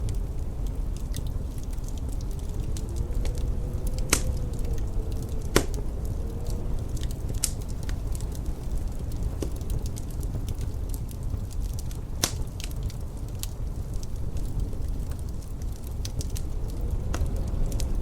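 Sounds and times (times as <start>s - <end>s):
fire pops: 0.0s - 18.0s
wind rumble: 0.0s - 18.0s
wood fire crackling: 0.0s - 18.0s.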